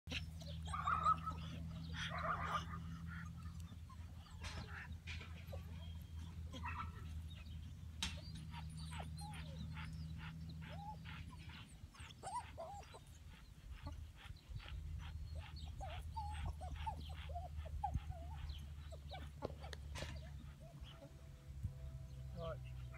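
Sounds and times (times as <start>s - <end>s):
dogs whining and yipping: 0.1s - 21.2s.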